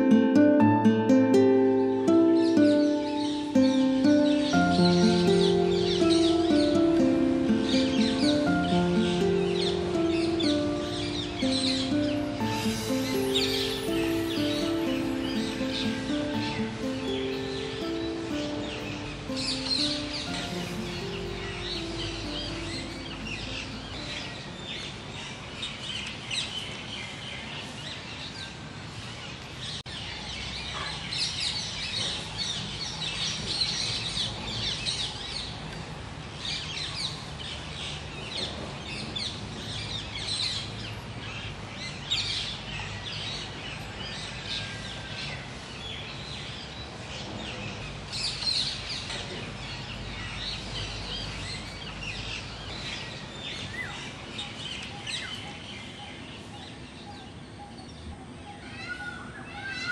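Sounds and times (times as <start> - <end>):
many birds chirping: 0.0 - 59.9.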